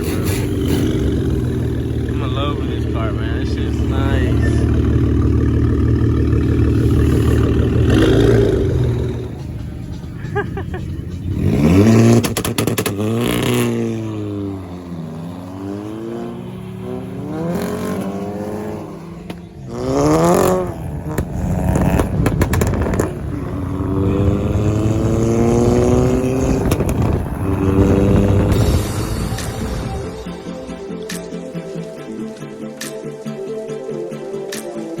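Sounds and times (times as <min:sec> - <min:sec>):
car engine revving: 0:00.0 - 0:33.2.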